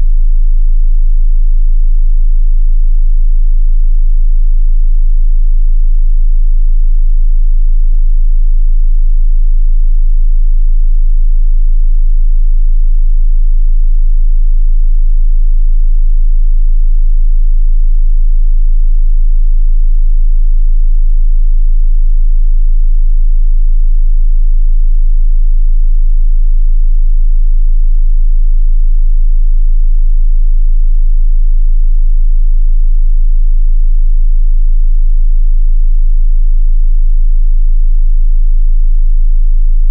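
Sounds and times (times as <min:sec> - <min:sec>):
deep bass test tone: 0:00.0 - 0:39.9.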